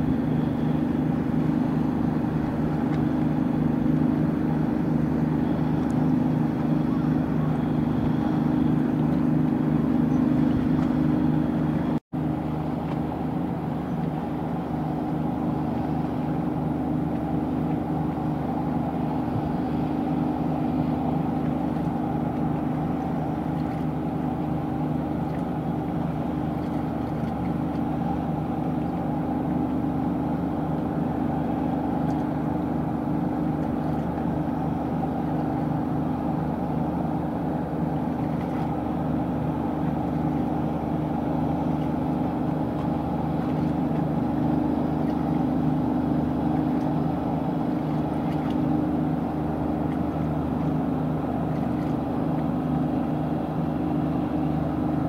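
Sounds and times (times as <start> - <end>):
ship engine droning: 0.0 - 55.0.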